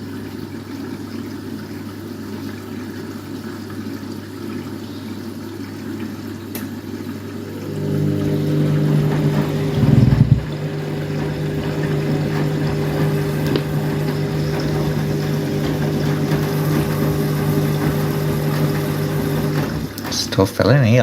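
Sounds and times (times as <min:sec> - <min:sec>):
washing machine hum: 0:00.0 - 0:21.0
water running into drum: 0:00.0 - 0:21.0.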